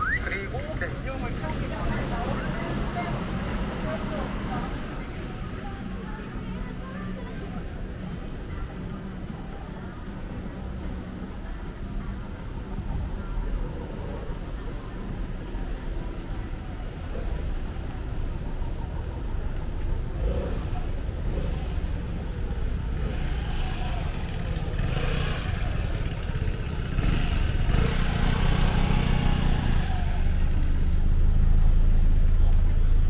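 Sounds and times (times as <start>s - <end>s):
low traffic hum: 0.0s - 33.0s
vehicle engine running: 0.0s - 33.0s.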